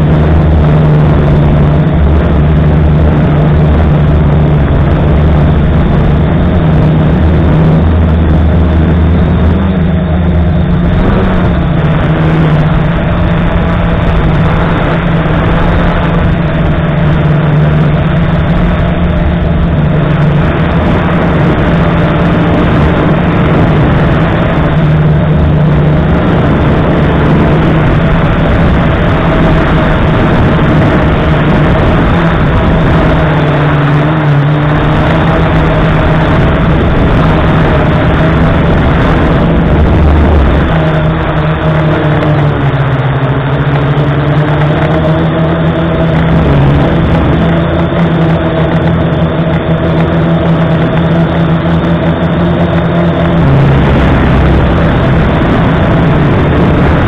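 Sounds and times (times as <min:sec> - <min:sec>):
drone motors and propellers: 0:00.0 - 0:57.0.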